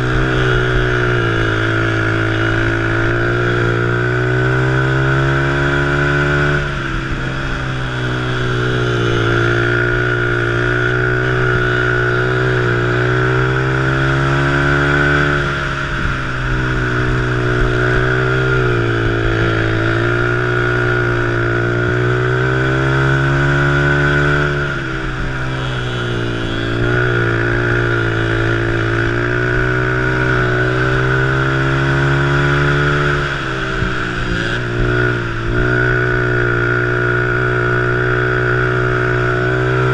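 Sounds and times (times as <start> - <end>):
three-wheeler engine revving: 0.0 - 39.9.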